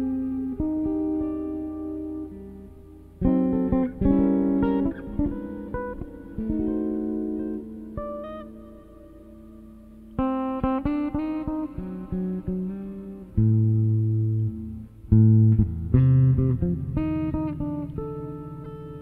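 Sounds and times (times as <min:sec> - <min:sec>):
electric guitar jazz: 0:00.0 - 0:19.0.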